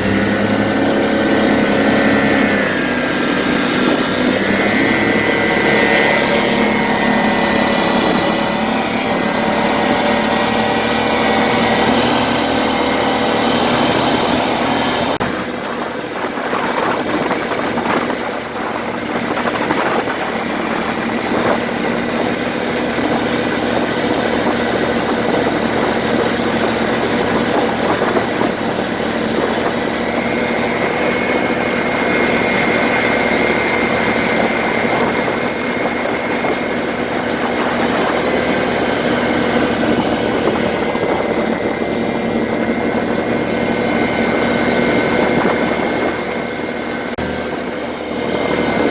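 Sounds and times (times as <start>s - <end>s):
petrol engine running: 0.0s - 48.9s
steady whine: 0.0s - 48.9s.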